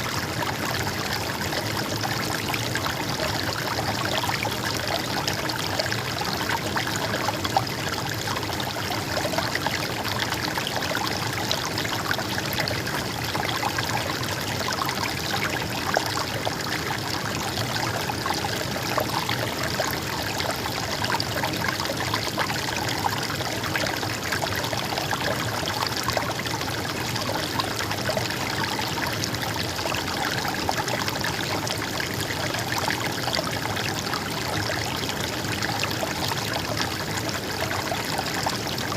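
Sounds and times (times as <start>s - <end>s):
stream water flowing and gurgling: 0.0s - 38.9s.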